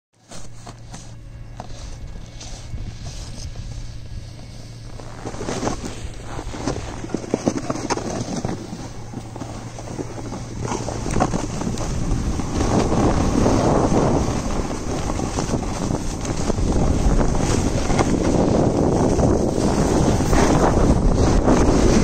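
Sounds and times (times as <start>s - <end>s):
skis scraping over hard snow: 0.2s - 22.0s
wind buffeting microphone: 2.0s - 22.0s.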